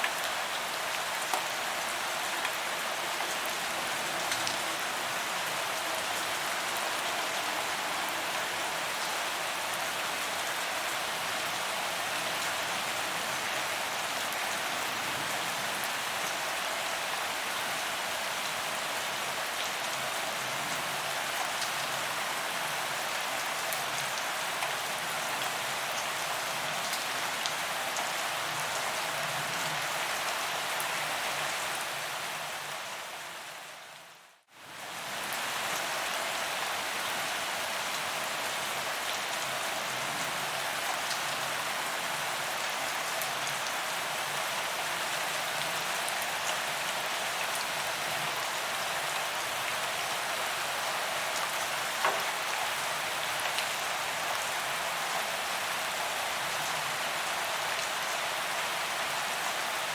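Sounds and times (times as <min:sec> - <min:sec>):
rain falling on pavement: 0:00.0 - 0:59.9.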